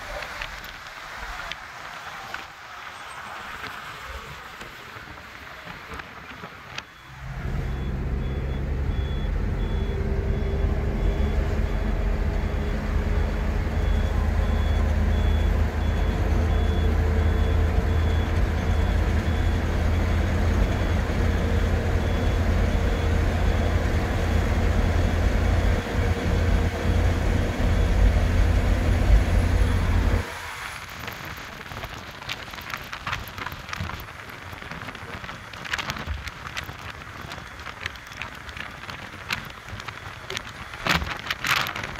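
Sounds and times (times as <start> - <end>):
road noise: 0.0 - 41.9
vehicle engine drone: 0.0 - 41.9.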